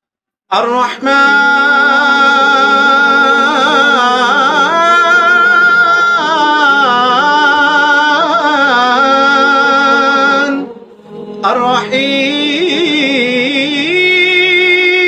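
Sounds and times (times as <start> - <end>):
lead voice ornamented singing: 0.5 - 15.0
voices singing sustained note: 1.2 - 14.4.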